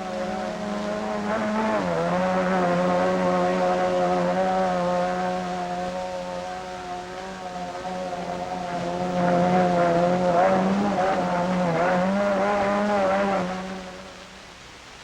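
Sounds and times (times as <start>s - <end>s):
outboard motor racing at high revs: 0.0s - 14.6s.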